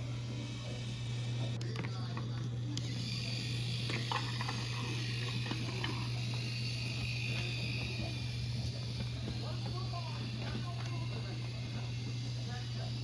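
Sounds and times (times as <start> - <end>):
toy train motor whir: 0.0 - 13.0.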